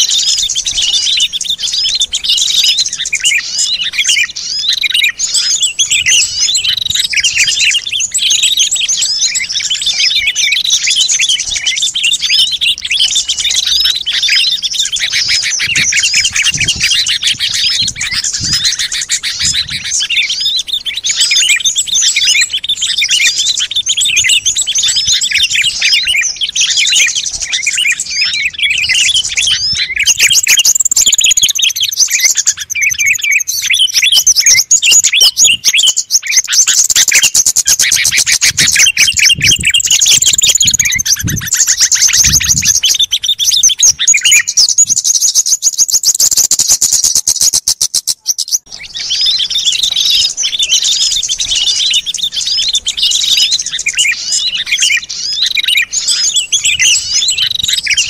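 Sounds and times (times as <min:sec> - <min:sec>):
fast rattling bird trill: 0:00.0 - 0:58.0
songbirds chirping and twittering: 0:00.0 - 0:58.0.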